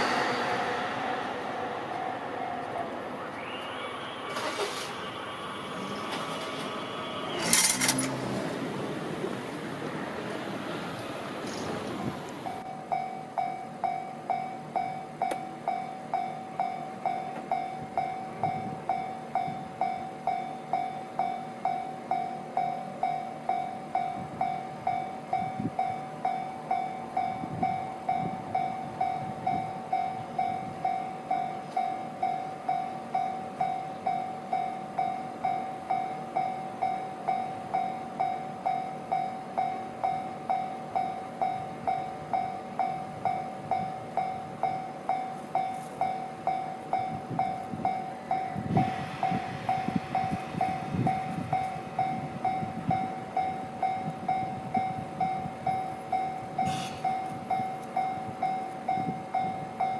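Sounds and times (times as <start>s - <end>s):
railway warning bell ringing: 0.0s - 8.4s, 12.4s - 59.9s
low train rumble: 0.0s - 59.9s.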